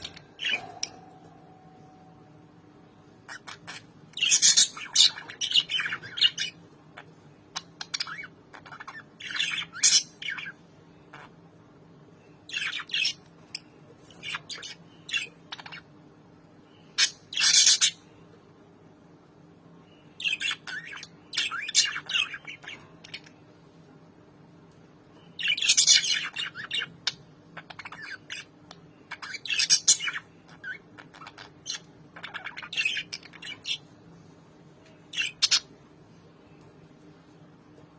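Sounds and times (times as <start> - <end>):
lovebirds chirping and squawking: 0.0 - 18.3, 19.8 - 23.6, 25.1 - 36.8.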